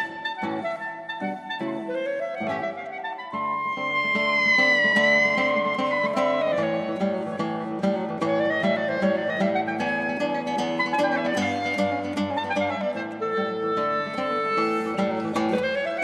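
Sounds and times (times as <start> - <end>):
clarinet holding long note: 0.0 - 16.0
guitar plucking notes: 0.0 - 16.0.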